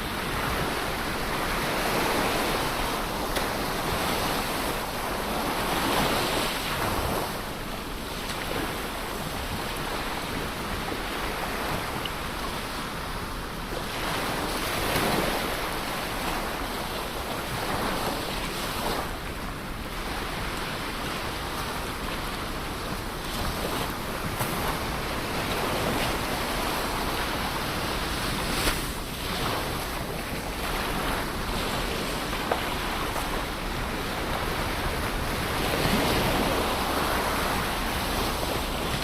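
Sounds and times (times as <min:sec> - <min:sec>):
ocean waves breaking on shore: 0:00.0 - 0:39.0
wind noise on microphone: 0:00.0 - 0:39.0.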